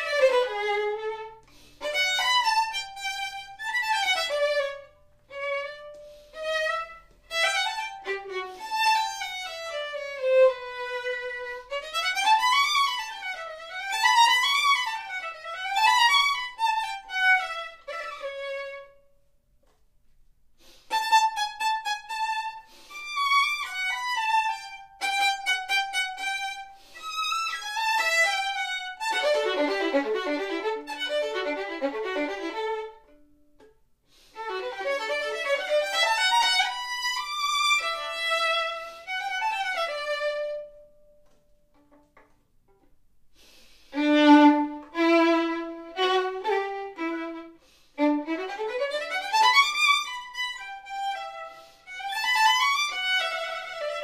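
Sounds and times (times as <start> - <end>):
solo violin: 0.0 - 19.8, 20.6 - 54.0.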